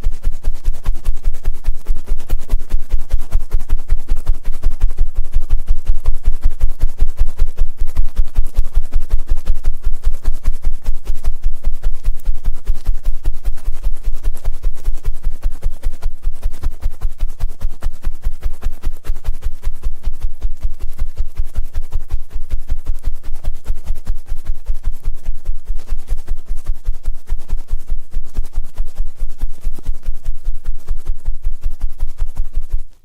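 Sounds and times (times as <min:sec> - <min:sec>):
tool scratching in microphone ear: 0:00.0 - 0:33.0.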